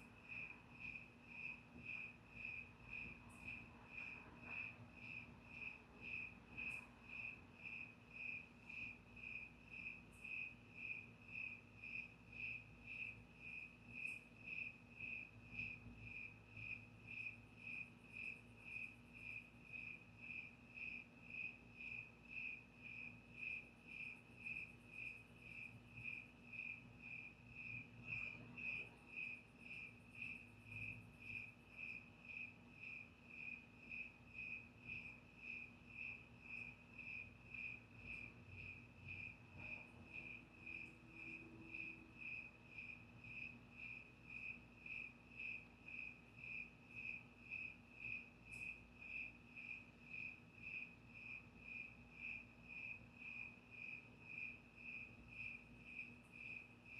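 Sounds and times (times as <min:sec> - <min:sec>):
cricket chirping: 0:00.0 - 0:56.9.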